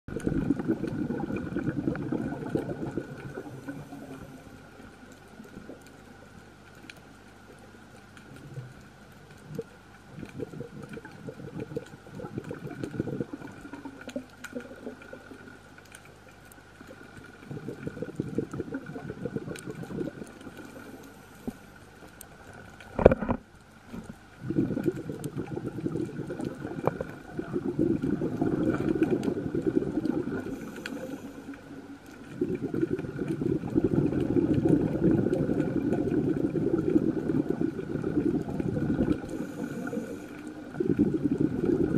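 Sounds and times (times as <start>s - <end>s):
underwater breath bubbling: 0.1s - 6.4s, 8.4s - 15.7s, 16.8s - 41.9s.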